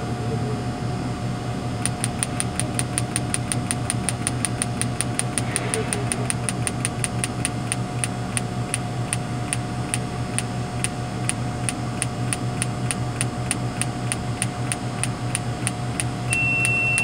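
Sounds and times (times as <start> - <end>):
sharp clicking: 1.8 - 17.0.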